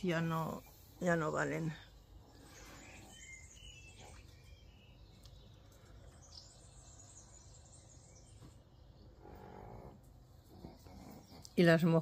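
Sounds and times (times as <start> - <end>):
faint bird chirps: 0.4 - 12.0.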